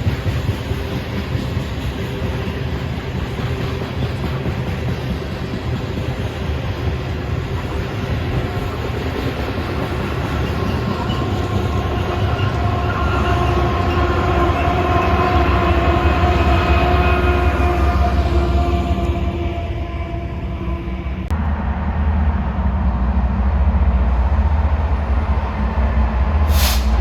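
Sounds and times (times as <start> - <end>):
freight train rumbling by: 0.0 - 27.0.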